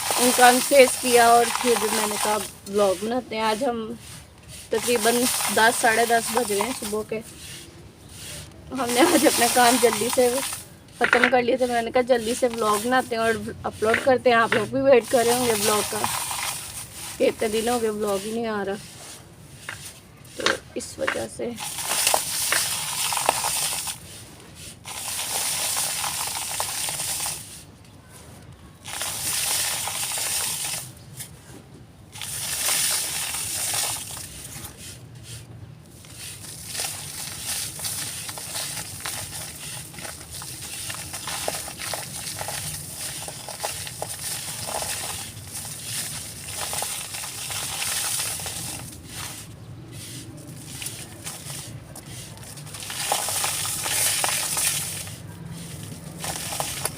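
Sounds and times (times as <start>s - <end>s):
dry chunks crumbling by hand: 0.0s - 27.6s, 28.4s - 31.4s, 32.2s - 34.9s, 35.9s - 56.9s.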